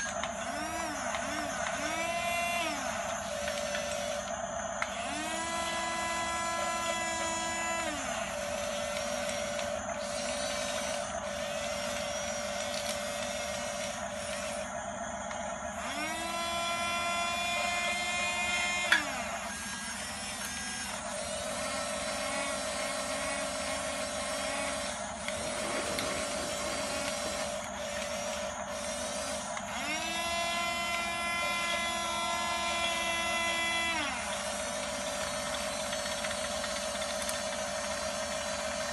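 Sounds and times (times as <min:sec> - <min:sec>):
steady high hum: 0:00.0 - 0:38.9
toy electric motors whining: 0:00.0 - 0:38.9.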